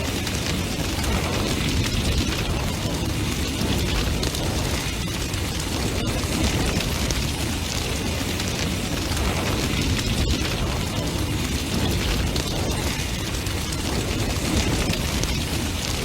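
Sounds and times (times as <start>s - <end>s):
bonfire crackling and popping: 0.0s - 16.0s
deep rumble of flame: 0.0s - 16.0s.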